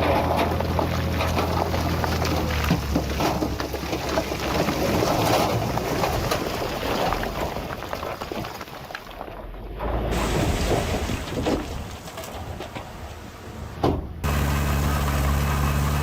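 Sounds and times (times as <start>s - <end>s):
stones clattering and crunching: 0.0s - 13.0s
diesel engine rumbling: 0.0s - 16.0s.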